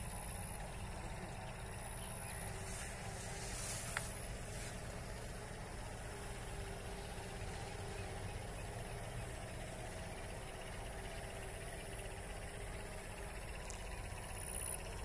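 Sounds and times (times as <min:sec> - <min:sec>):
low mechanical hum: 0:00.0 - 0:15.0
background hiss: 0:01.7 - 0:15.0.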